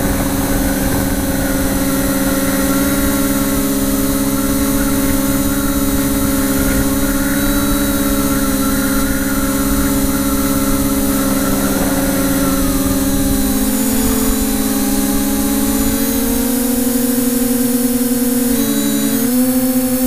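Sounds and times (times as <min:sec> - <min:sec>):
wind rumble on microphone: 0:00.0 - 0:18.9
drone motors humming: 0:00.0 - 0:20.0.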